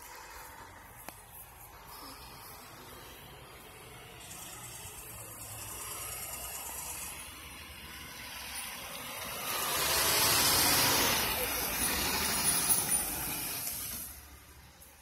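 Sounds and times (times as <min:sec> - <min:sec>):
tyres hissing: 0:00.0 - 0:14.8
fire truck engine rumbling: 0:00.0 - 0:15.0.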